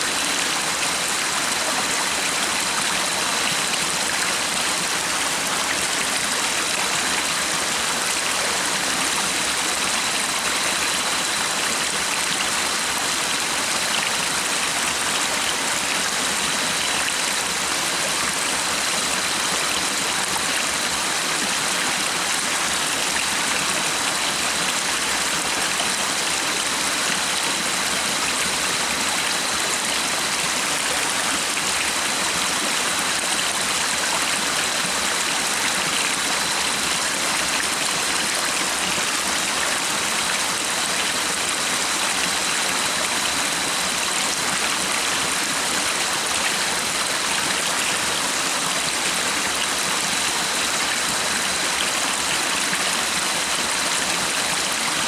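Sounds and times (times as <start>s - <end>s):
stream rushing: 0.0s - 55.0s.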